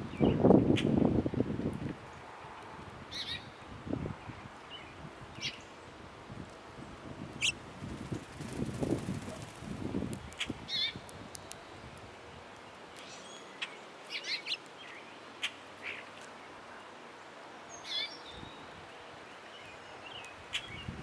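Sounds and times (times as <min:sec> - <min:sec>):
songbirds chirping: 0:00.0 - 0:01.4, 0:02.5 - 0:21.0.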